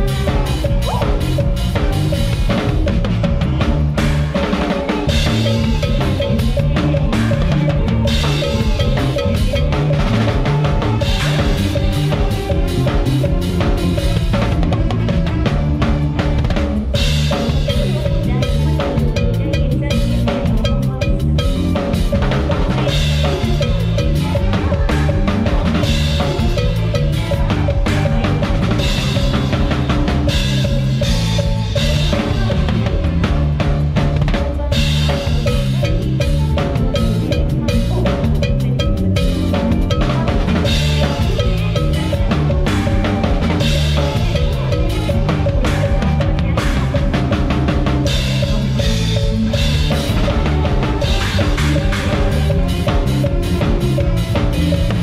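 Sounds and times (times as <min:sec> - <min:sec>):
band music: 0:00.0 - 0:55.0
drum kit playing driving beat: 0:00.0 - 0:55.0.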